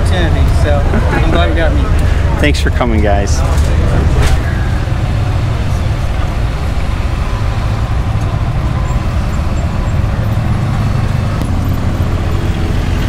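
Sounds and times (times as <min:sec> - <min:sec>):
utility vehicles driving past: 0:00.0 - 0:13.0.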